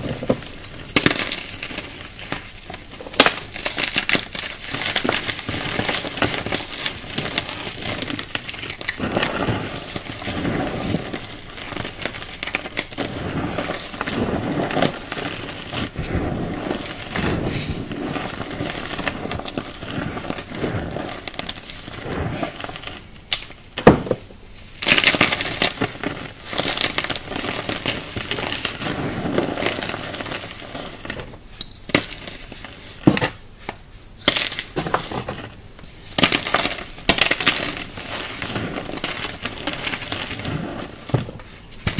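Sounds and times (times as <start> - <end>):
hands crunching chalk: 0.0 - 23.5, 24.8 - 31.3, 34.2 - 41.9.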